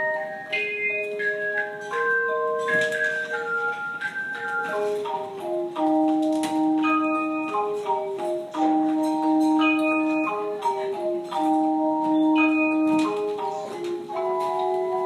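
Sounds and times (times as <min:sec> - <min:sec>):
chime bars playing a melody: 0:00.0 - 0:15.0.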